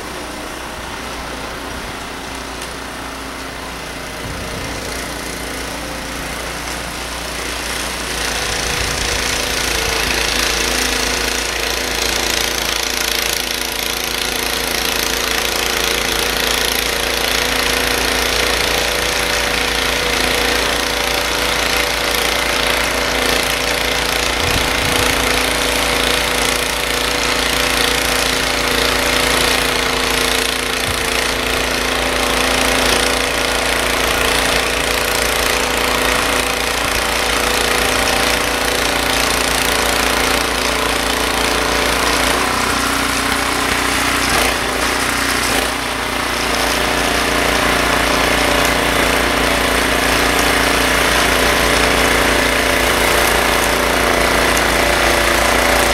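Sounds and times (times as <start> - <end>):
snowblower engine running: 0.0 - 55.9.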